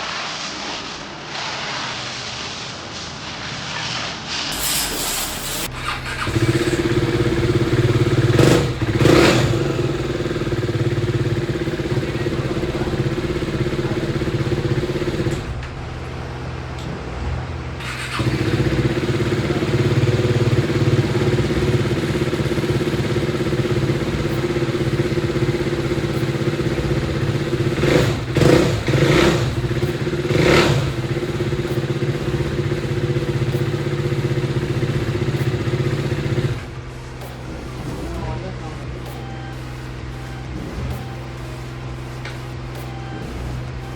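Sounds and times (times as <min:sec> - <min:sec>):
motorcycle engine revving: 0:04.5 - 0:43.9.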